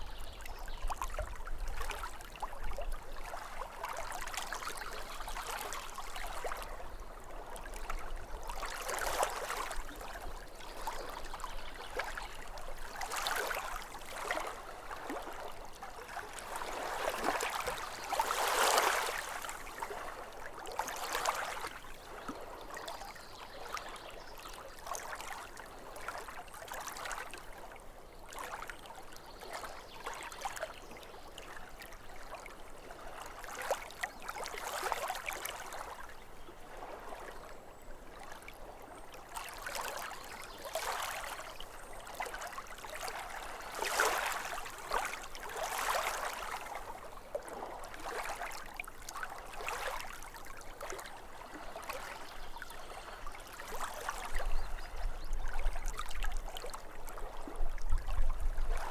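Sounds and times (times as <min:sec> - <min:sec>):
small waves lapping shore: 0:00.0 - 0:58.9.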